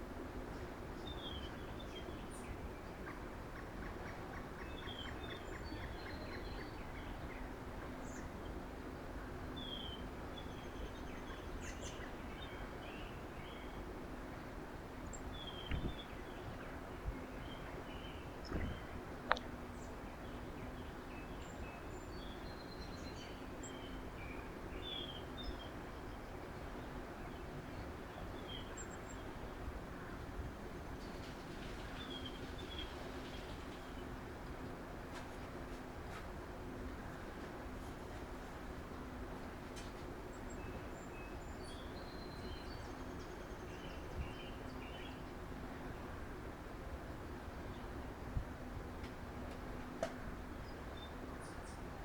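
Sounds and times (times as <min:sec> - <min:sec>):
low outdoor rumble: 0:00.0 - 0:52.0
songbirds chirping: 0:00.1 - 0:52.0.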